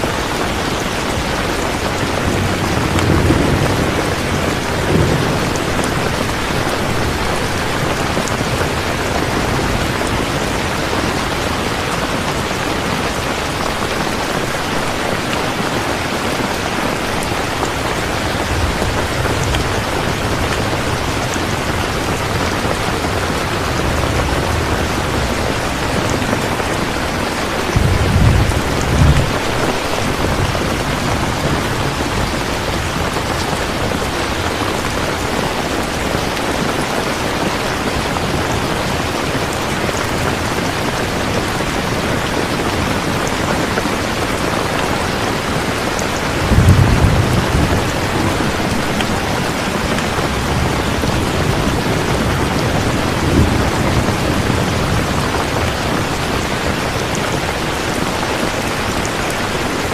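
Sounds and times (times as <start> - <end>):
deep thunder rumbling: 0.0 - 59.2
heavy rain falling: 0.0 - 59.9.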